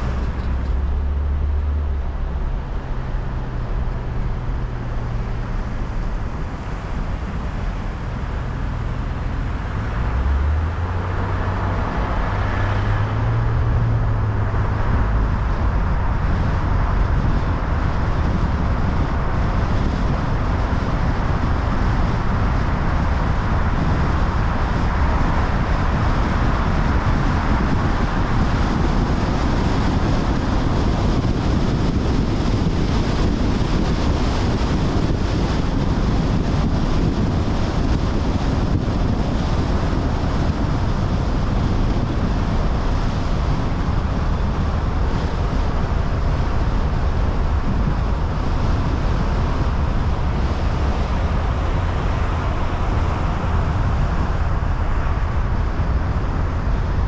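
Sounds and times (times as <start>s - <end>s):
tyre and road noise: 0.0s - 57.0s
wind rushing over microphone: 0.0s - 57.0s.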